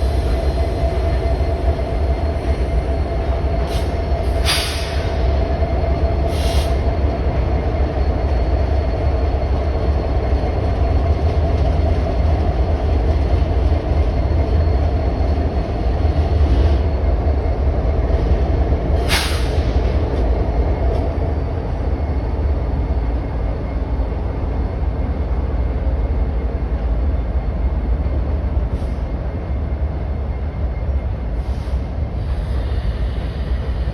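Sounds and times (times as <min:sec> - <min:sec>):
freight train cars rumbling: 0:00.0 - 0:33.9.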